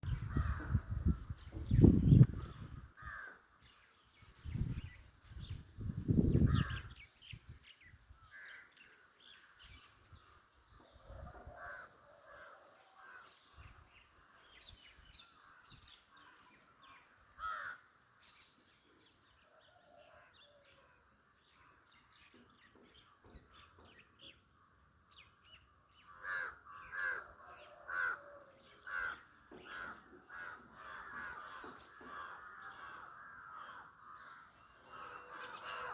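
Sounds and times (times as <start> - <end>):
birds calling: 0.0 - 18.6, 21.5 - 35.9.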